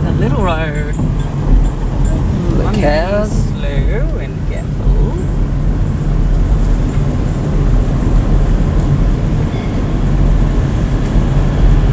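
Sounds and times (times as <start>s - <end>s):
car engine and road noise: 0.0s - 11.9s.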